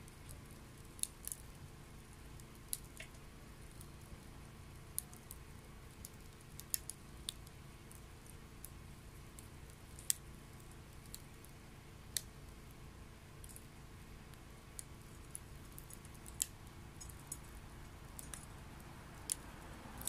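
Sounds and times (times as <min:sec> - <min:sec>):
firewood popping and crackling: 0:00.0 - 0:20.0
stove low rumble: 0:00.0 - 0:20.0.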